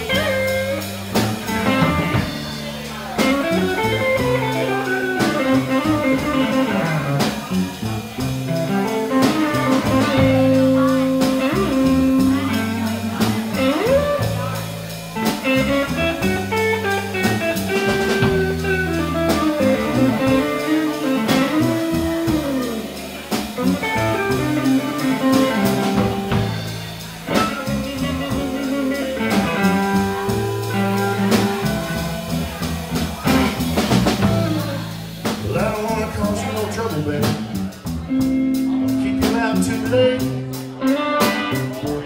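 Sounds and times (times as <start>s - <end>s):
bass guitar: 0.0s - 42.0s
drum kit: 0.0s - 42.0s
electric guitar lead: 0.0s - 42.0s.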